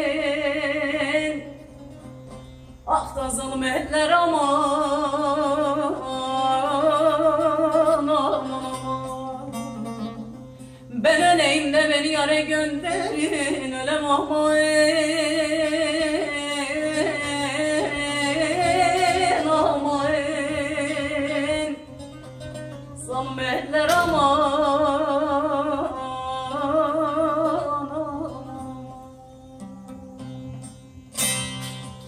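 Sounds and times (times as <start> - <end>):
plucked lute: 0.0 - 32.0
woman singing folk lament: 0.0 - 32.0.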